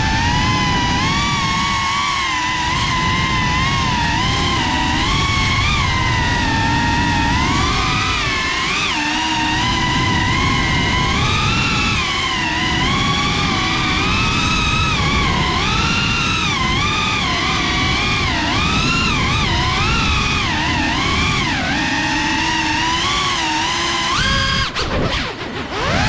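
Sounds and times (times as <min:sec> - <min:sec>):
drone motors whining: 0:00.0 - 0:26.0
rush of wind: 0:00.0 - 0:26.0.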